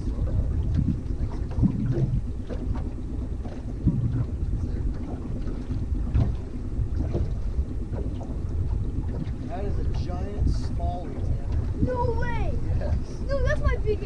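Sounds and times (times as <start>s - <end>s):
outboard motor droning: 0.0s - 14.0s
wind noise on microphone: 0.0s - 14.0s.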